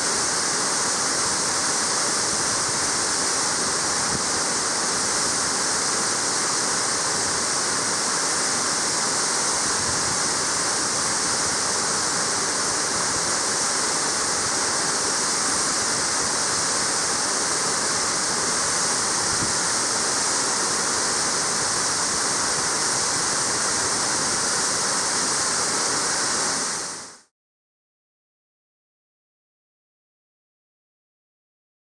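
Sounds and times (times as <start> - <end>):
waterfall rushing: 0.0 - 27.1.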